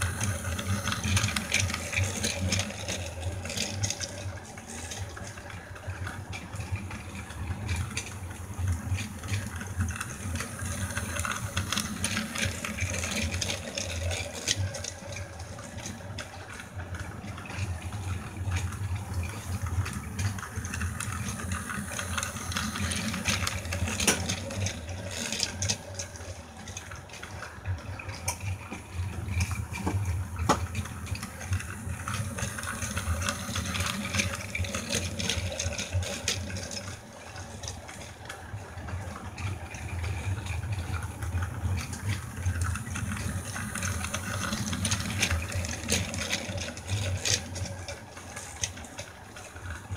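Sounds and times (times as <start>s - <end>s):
toy train clicks on track: 0.0s - 49.9s
toy train motor whirring: 0.0s - 49.9s.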